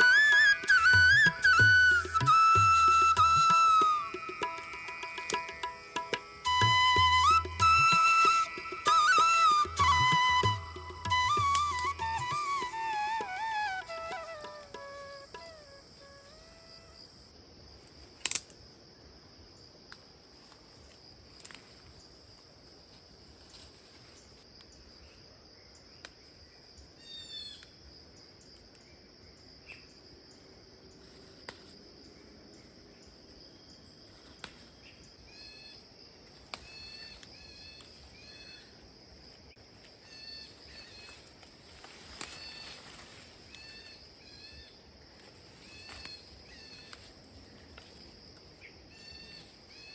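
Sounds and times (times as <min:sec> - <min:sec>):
high insect drone: 0:00.0 - 0:25.6, 0:26.4 - 0:49.9.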